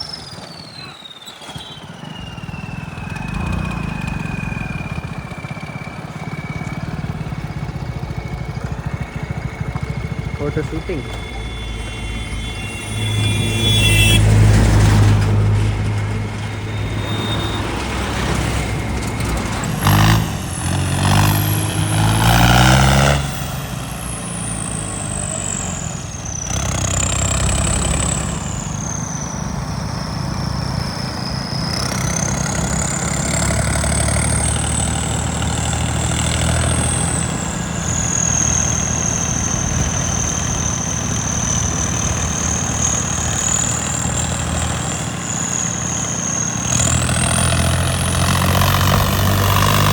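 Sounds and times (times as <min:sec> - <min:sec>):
high whistling tone: 0:00.0 - 0:49.9
tractor engine revving: 0:00.0 - 0:49.9.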